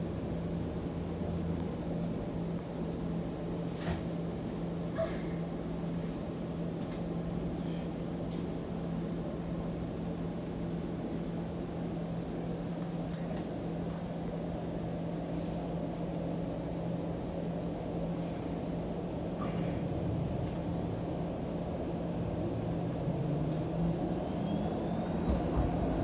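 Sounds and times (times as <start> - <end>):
streetcar interior hum and rumble: 0.0 - 26.0.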